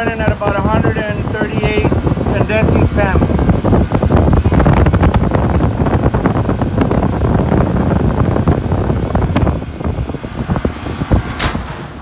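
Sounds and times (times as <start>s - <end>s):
cooler condensing unit running: 0.0s - 12.0s
wind buffeting microphone: 0.0s - 12.0s.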